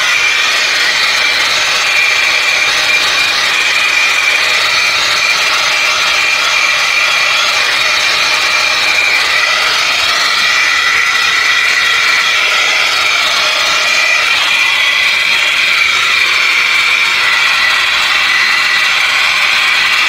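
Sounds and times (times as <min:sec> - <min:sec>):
vacuum cleaner motor whine: 0:00.0 - 0:20.0.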